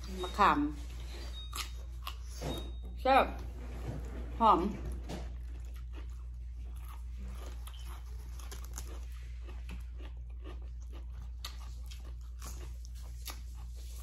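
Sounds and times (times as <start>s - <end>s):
chewing with crisp crunches: 0.0s - 2.7s, 4.8s - 14.0s.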